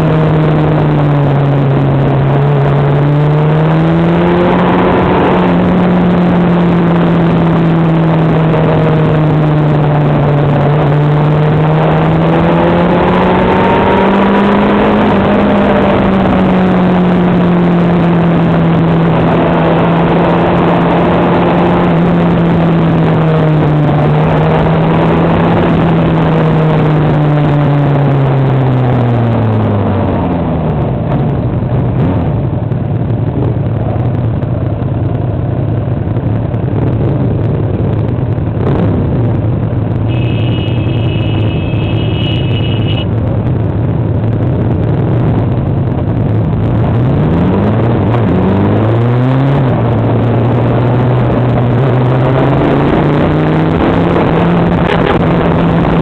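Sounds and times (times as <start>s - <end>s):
vehicle engine running: 0.0s - 56.0s
wind and road noise: 0.0s - 56.0s.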